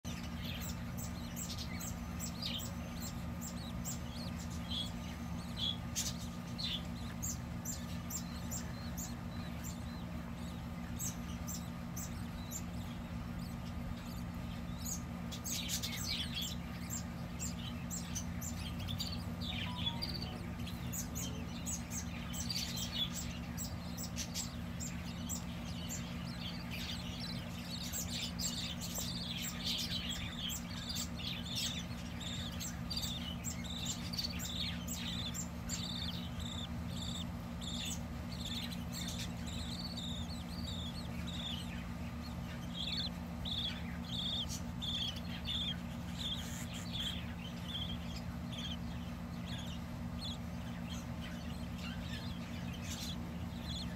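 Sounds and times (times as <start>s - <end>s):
budgerigars chirping: 0.0s - 53.9s
steady low hum: 0.0s - 53.9s.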